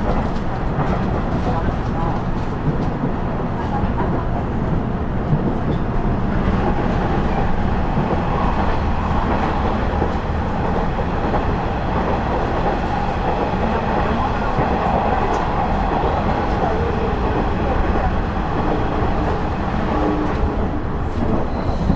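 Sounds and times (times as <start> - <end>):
diesel engine and wheels rumbling: 0.0 - 21.9.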